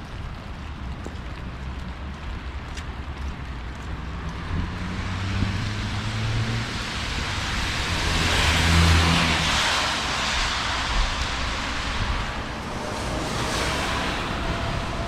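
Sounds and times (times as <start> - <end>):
car passing on wet road: 0.0 - 15.0
heavy rain falling: 0.0 - 15.0.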